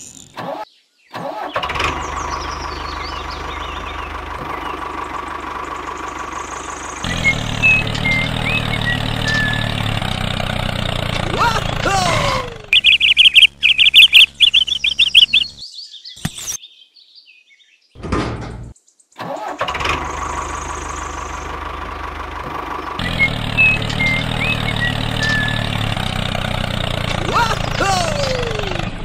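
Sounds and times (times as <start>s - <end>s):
small tractor engine starting: 0.4s - 15.5s, 19.2s - 29.0s
birds chirping: 1.9s - 18.0s, 20.1s - 28.8s.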